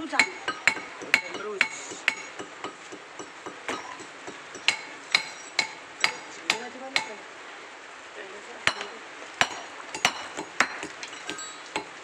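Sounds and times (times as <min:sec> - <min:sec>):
hammers striking concrete: 0:00.0 - 0:07.2, 0:08.7 - 0:12.0
rain hiss: 0:00.0 - 0:12.0.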